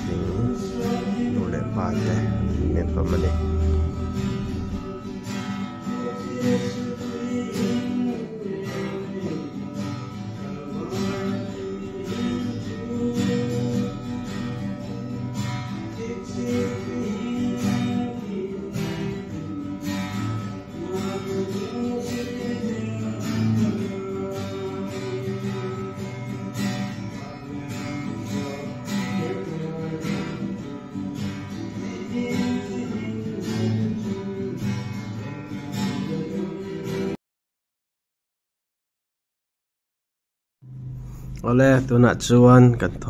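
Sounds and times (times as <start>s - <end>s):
acoustic guitar strumming: 0.0s - 37.2s, 40.6s - 43.0s
man singing: 0.0s - 37.2s, 41.4s - 43.0s.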